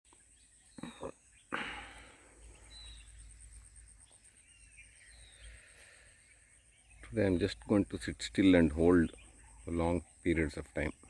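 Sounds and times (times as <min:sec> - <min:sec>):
bird chirps: 0:00.1 - 0:11.0.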